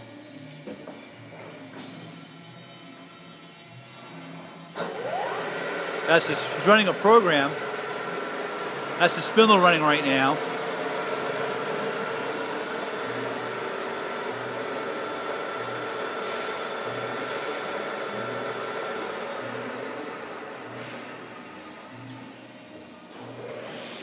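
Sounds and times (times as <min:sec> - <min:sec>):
mill spindle whirring hum: 0:00.0 - 0:24.0
thin high whine: 0:04.3 - 0:24.0.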